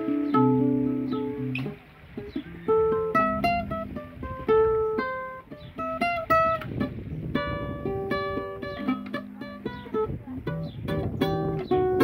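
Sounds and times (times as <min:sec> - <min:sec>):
guitar notes plucked: 0:00.0 - 0:12.0.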